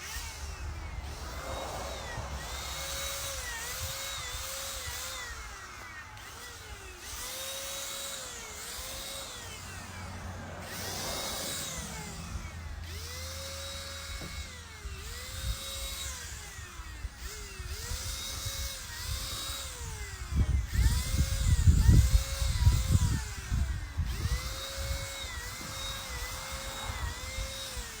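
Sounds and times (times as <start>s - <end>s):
paint sprayer motor whine: 0.0s - 28.0s.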